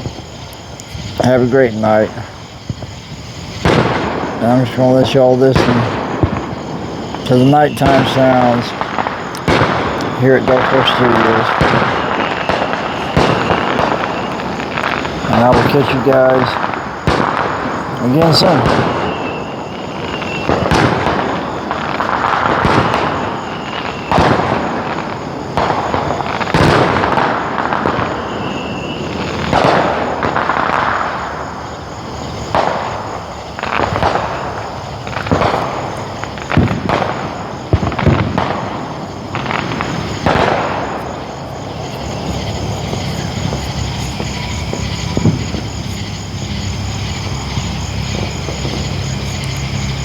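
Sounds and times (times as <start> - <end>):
fireworks bangs and pops: 0.0 - 50.0
rolling echo of fireworks: 0.0 - 50.0.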